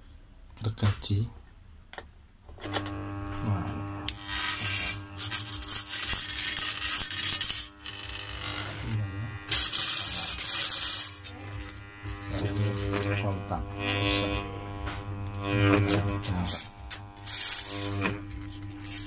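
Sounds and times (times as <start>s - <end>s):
steady mains hum: 1.2s - 19.0s
hacksaw blade buzzing and rattling: 2.6s - 19.0s.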